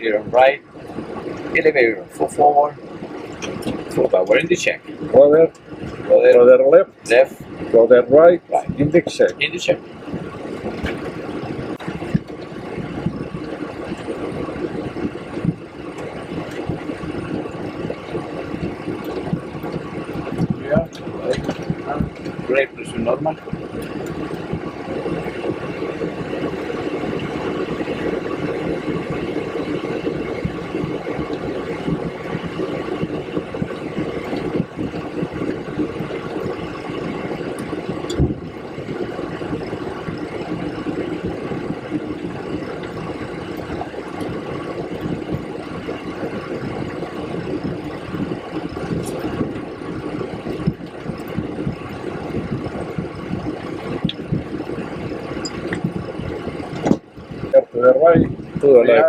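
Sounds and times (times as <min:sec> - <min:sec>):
jet engines idling in cockpit: 0:00.0 - 0:59.0.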